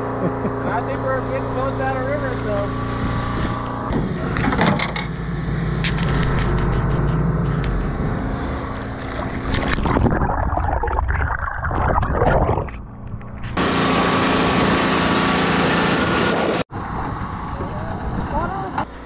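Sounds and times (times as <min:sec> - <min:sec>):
boat motor running: 0:00.0 - 0:10.4, 0:12.2 - 0:19.0.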